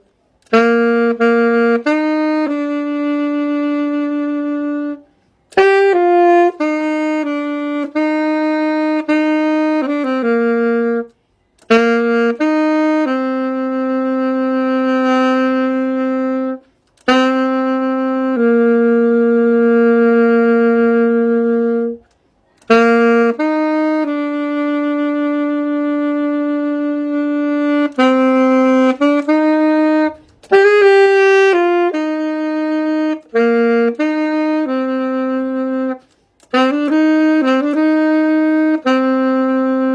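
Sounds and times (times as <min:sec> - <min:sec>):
solo saxophone melody: 0:00.0 - 0:39.9.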